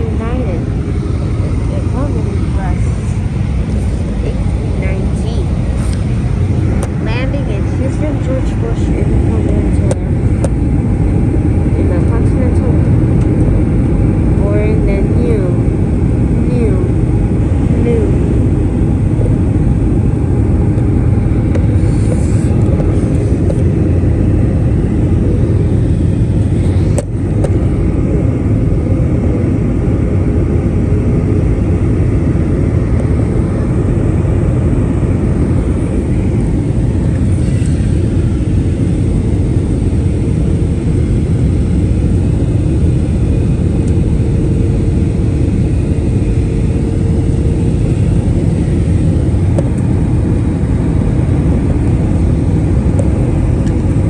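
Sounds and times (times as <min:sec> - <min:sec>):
airplane cabin engine rumble: 0:00.0 - 0:54.0
faint steady hum: 0:00.0 - 0:54.0.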